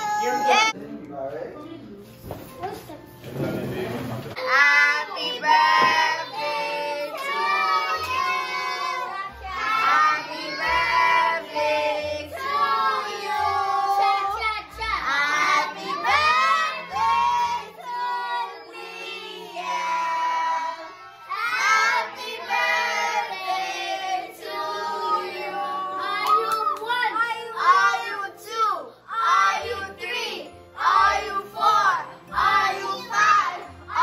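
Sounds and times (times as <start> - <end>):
group singing with children: 4.4 - 26.8, 29.1 - 34.0.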